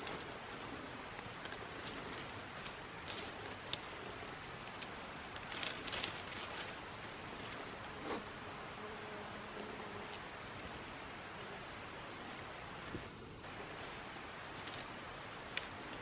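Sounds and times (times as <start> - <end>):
rustles and light crackles: 0.0 - 16.0
steady outdoor hiss: 0.0 - 16.0.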